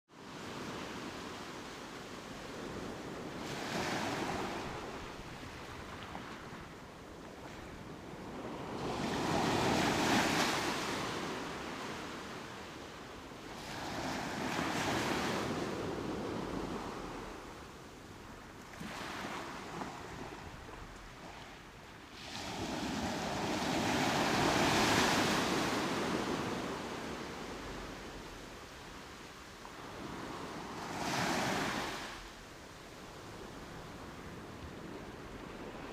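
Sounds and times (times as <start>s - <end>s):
waves breaking on a beach: 0.1s - 35.9s.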